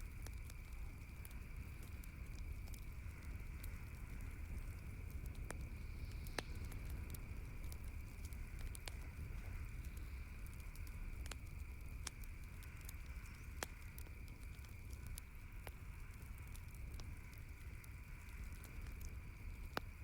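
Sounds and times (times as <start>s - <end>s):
campfire pops: 0.0s - 20.0s
faint hiss: 0.0s - 20.0s
fire low rumble: 0.0s - 20.0s.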